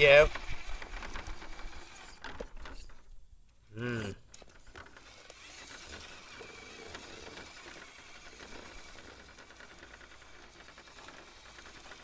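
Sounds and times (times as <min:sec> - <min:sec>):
toy car motor whirring: 0:00.0 - 0:03.2, 0:04.3 - 0:12.0.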